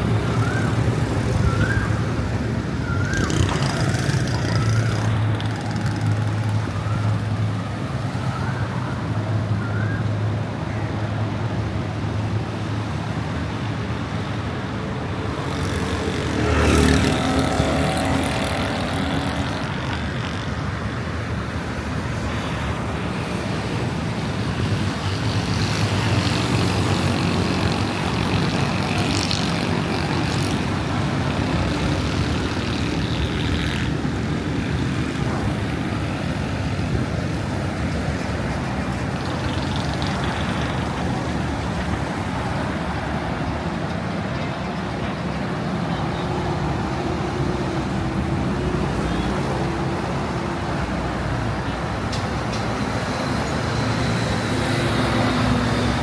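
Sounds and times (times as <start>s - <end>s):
street traffic: 0.0s - 56.0s.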